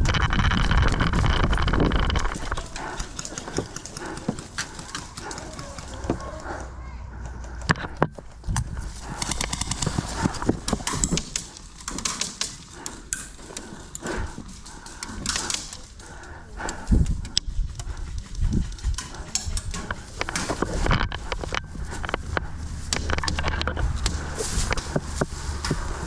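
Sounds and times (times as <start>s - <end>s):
gear knocking and rattling: 0.0s - 6.2s, 7.6s - 16.1s, 16.8s - 26.0s.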